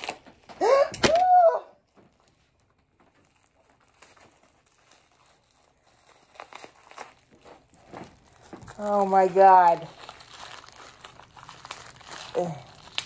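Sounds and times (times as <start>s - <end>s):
plastic wrapping crinkling: 0.0s - 1.2s, 1.8s - 13.0s.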